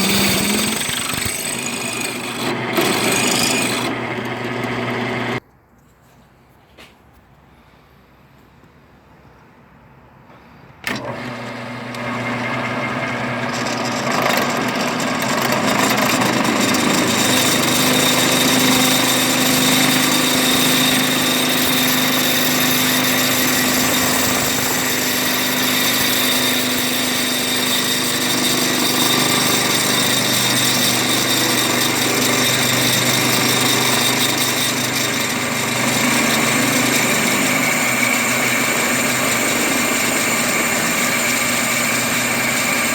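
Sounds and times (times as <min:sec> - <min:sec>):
power tool running: 0:00.0 - 0:05.4, 0:10.9 - 0:42.9.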